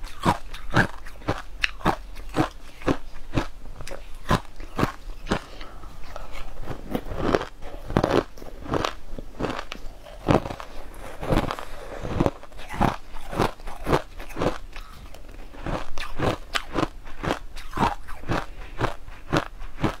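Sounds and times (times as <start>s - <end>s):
chewing crunchy ice: 0.0s - 20.0s.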